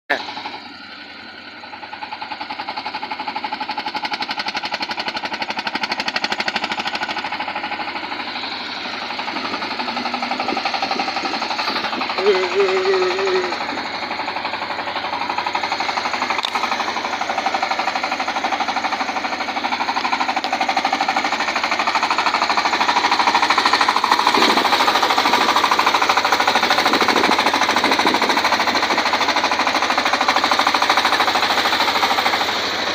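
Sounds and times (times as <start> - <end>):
diesel engine clattering: 0.1 - 32.9.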